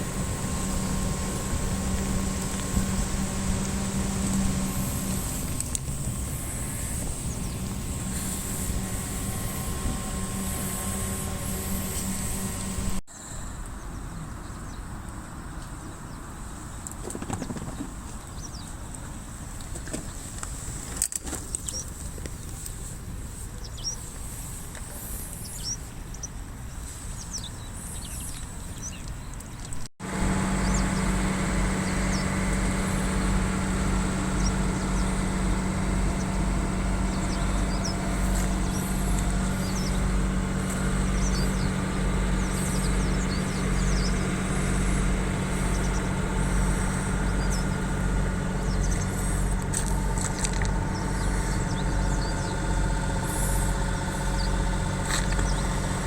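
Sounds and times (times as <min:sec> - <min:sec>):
birds chirping: 0:00.0 - 0:13.0, 0:13.7 - 0:20.2, 0:21.5 - 0:24.3, 0:25.2 - 0:56.0
low mechanical hum: 0:00.0 - 0:56.0.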